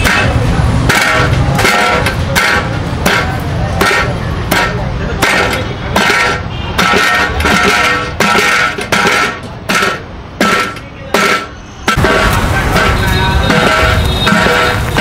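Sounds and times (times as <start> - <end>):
wooden mallet pounding meat: 0.0 - 15.0.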